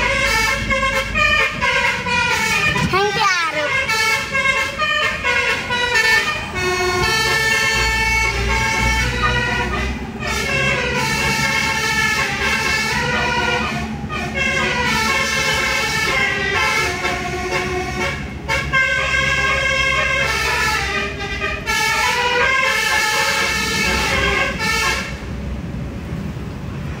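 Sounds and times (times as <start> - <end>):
musical car horn melody: 0.0 - 25.2.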